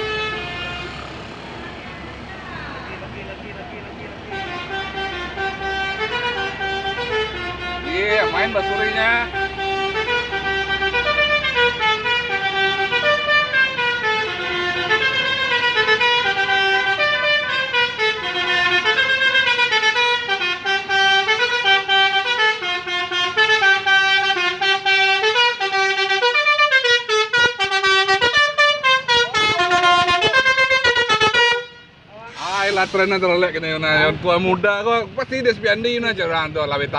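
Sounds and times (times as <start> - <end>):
bus horn playing a tune: 0.0 - 33.2.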